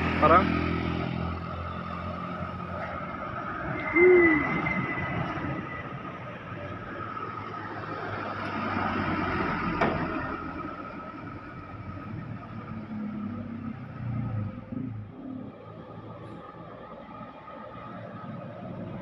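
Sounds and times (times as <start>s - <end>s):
truck passing: 0.0s - 19.0s.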